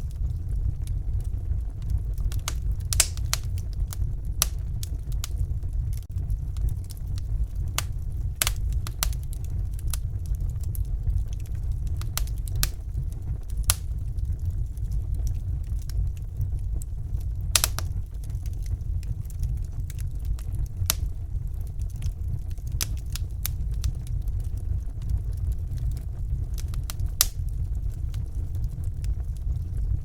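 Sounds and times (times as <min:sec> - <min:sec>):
fire flames rumbling: 0:00.0 - 0:30.0
logs crackling and popping: 0:00.0 - 0:30.0.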